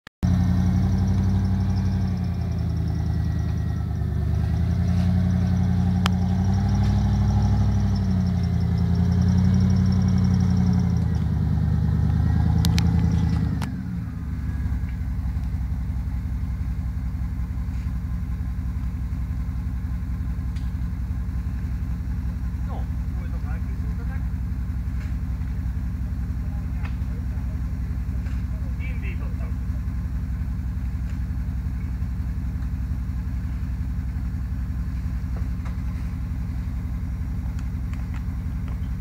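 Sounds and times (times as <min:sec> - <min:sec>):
off-road vehicle engine revving: 0:00.2 - 0:39.0.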